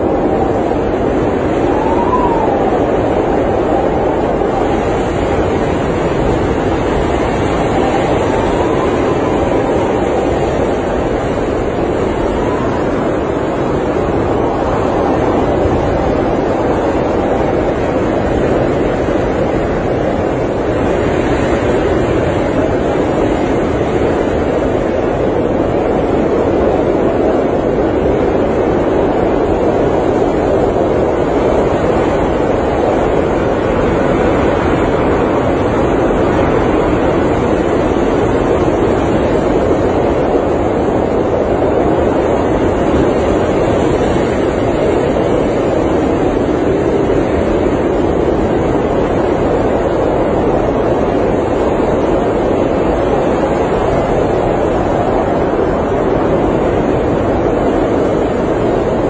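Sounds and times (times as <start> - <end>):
blizzard wind rushing: 0.0 - 59.0.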